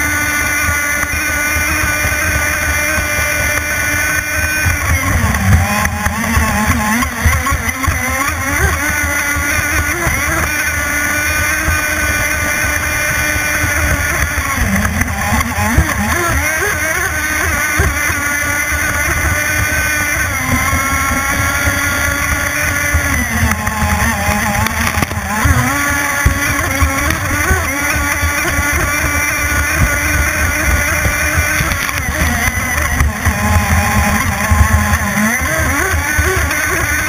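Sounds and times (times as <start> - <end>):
model boat engine running hard: 0.0 - 37.0
water noise: 0.0 - 37.0.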